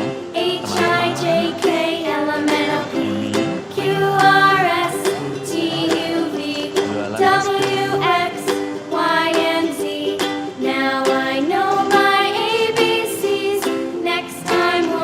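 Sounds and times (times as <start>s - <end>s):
plucked ukulele or guitar: 0.0s - 15.0s
woman singing children's song: 0.0s - 15.0s.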